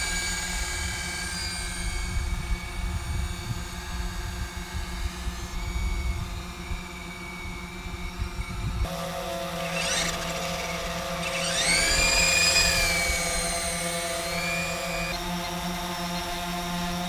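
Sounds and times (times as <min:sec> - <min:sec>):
toy helicopter motor whine: 0:00.0 - 0:17.0.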